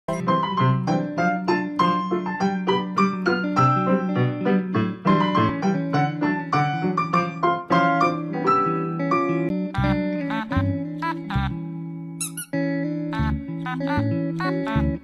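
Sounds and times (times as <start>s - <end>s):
piano music: 0.1s - 15.0s.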